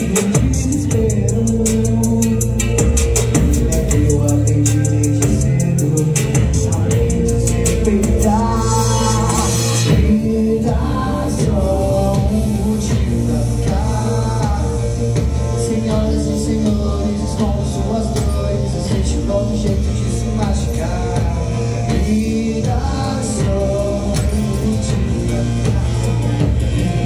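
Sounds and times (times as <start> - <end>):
live rock band playing: 0.0 - 27.0
person singing: 0.0 - 27.0.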